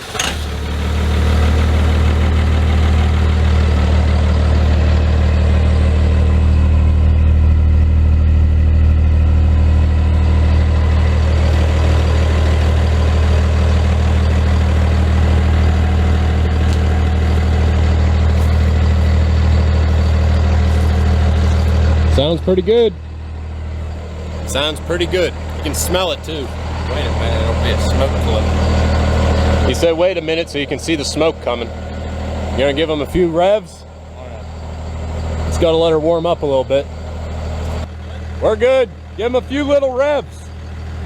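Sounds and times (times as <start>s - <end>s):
diesel engine starting and idling: 0.0s - 41.0s.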